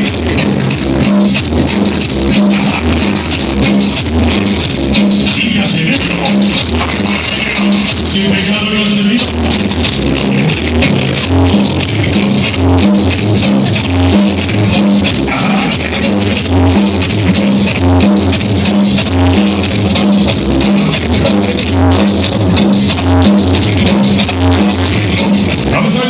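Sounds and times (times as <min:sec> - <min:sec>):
loud dance music: 0:00.0 - 0:26.0.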